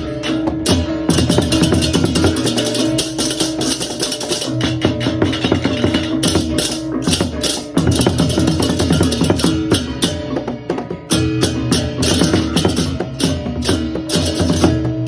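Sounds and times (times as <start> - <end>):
drums: 0.0 - 15.0.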